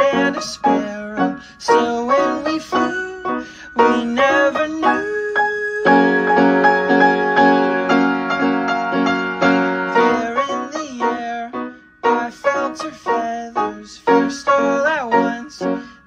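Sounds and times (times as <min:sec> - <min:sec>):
piano chords: 0:00.0 - 0:16.0
sliding melody line: 0:00.0 - 0:16.0.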